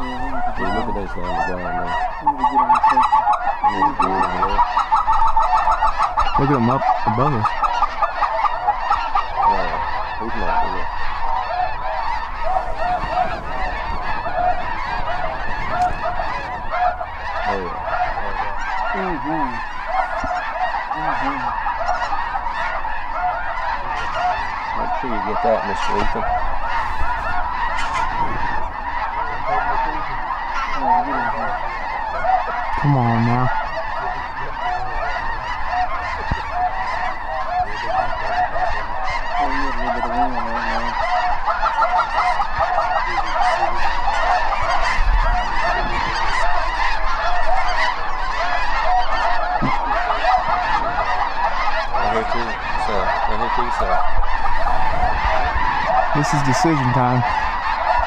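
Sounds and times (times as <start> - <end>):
flock of geese honking: 0.0 - 58.0.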